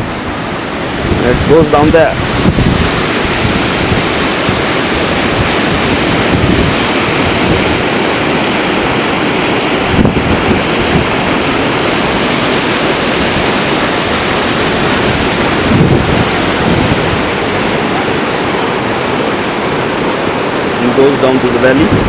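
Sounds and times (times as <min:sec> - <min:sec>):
waterfall rushing: 0:00.0 - 0:22.0
wind buffeting microphone: 0:00.0 - 0:22.0.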